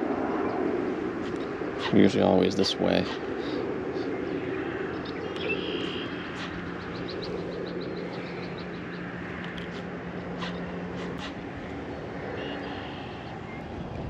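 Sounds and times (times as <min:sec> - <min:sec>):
outdoor rumble with low hum: 0:00.0 - 0:14.0.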